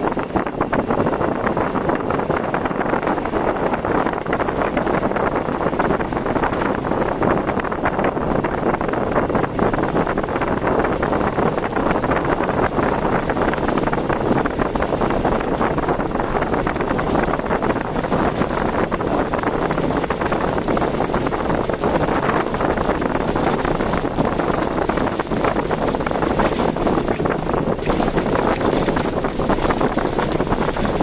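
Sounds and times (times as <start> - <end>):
car road noise: 0.0 - 31.0
strong wind: 0.0 - 31.0.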